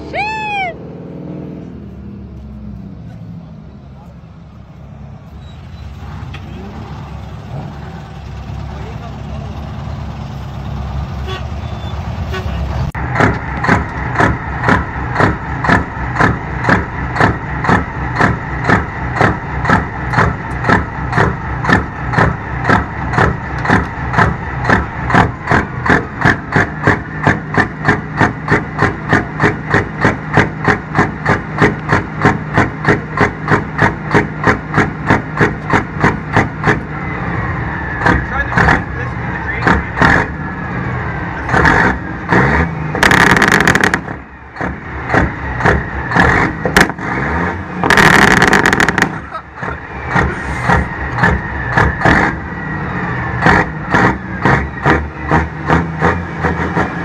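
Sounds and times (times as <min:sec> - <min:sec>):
truck engine running: 0:00.0 - 0:57.0
big rig exhaust pulsing: 0:01.4 - 0:57.0.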